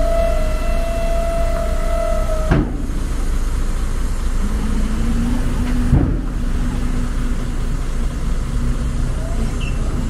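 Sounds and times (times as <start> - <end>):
excavator diesel engine rumbling: 0.0 - 10.0
steady hum: 0.0 - 10.0.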